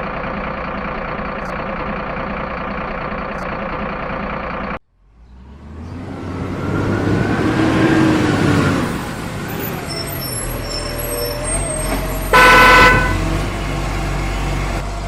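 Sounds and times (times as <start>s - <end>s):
truck engine running: 0.0s - 15.0s
vehicle engine: 0.0s - 15.0s.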